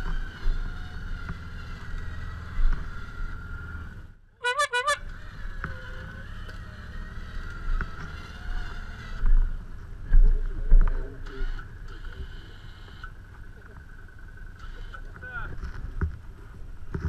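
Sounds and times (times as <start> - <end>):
engine low rumble and whine: 0.0 - 17.0.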